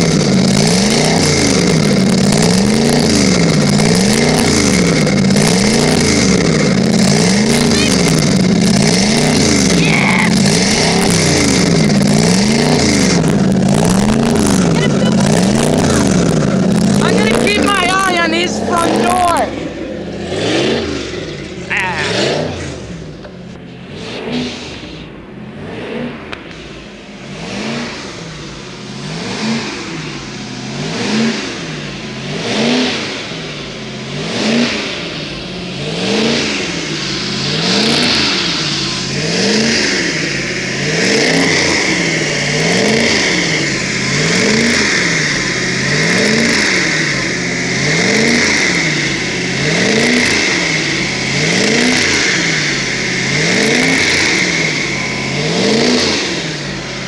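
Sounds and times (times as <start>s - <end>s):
engine revving up and down: 0.0s - 57.0s
steady high whine: 0.0s - 57.0s.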